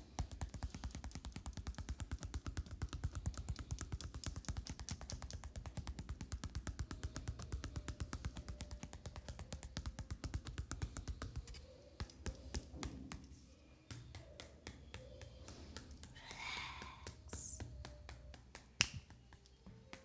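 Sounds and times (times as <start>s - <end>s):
hands tapping in a massage: 0.0s - 20.0s.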